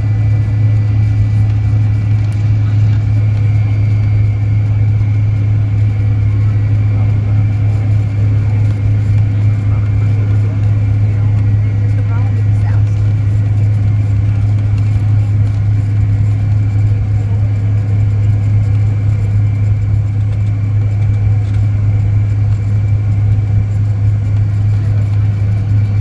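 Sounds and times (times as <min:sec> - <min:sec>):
jet airliner cabin hum: 0:00.0 - 0:26.0
jet engine whine: 0:00.0 - 0:26.0.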